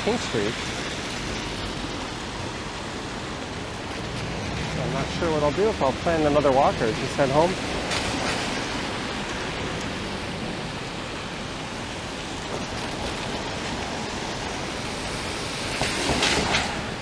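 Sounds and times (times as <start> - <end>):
wet city street noise: 0.0 - 17.0.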